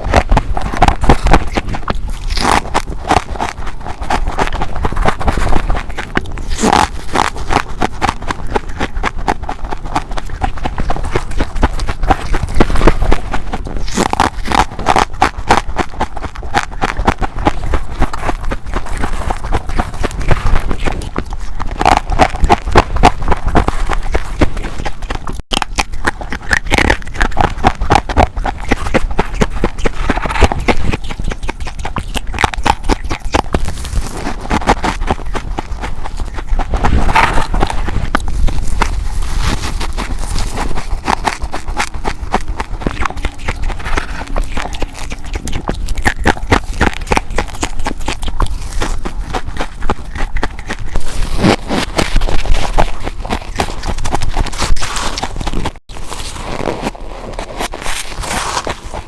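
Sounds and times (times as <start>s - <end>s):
ice being bitten and chewed: 0.0s - 59.0s.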